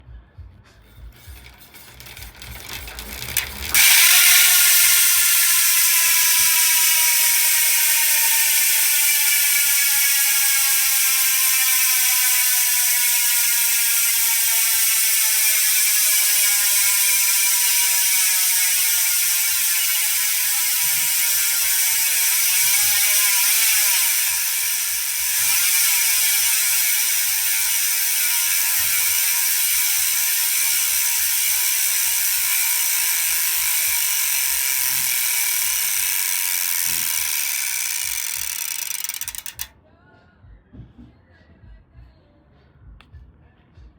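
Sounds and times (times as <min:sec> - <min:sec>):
bicycle hub ratcheting buzz: 0:01.0 - 0:39.7.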